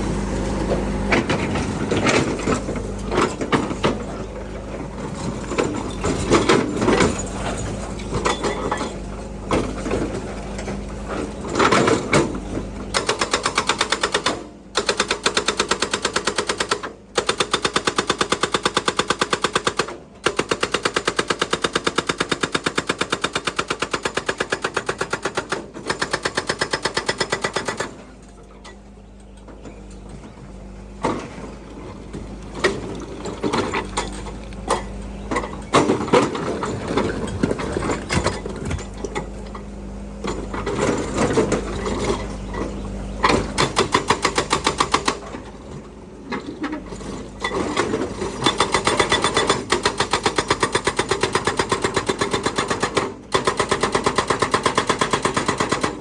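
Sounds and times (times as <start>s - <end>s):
excavator clattering and knocks: 0.1s - 56.0s.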